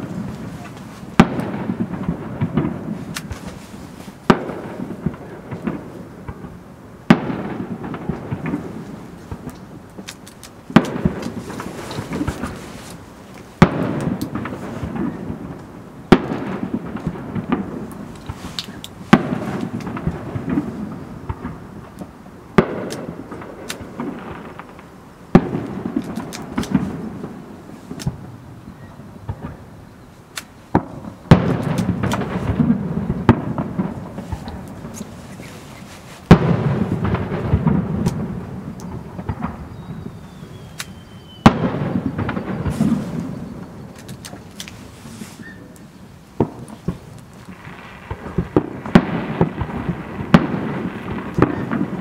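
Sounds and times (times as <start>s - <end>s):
firework shells bursting: 0.0s - 28.3s, 30.2s - 45.7s, 46.3s - 52.0s
faint firework crackles: 0.0s - 52.0s.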